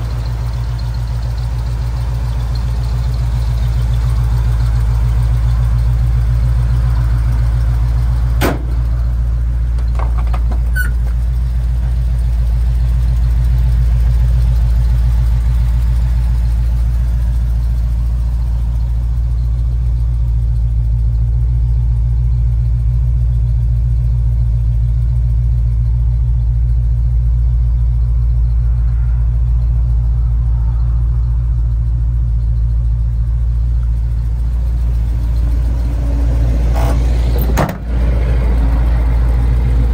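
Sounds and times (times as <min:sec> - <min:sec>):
pickup engine idling: 0:00.0 - 0:39.9.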